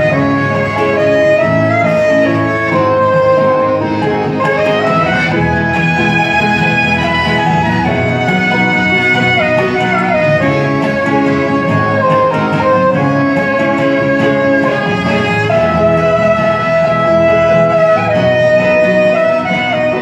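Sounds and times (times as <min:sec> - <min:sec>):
folk quartet playing: 0:00.0 - 0:20.0.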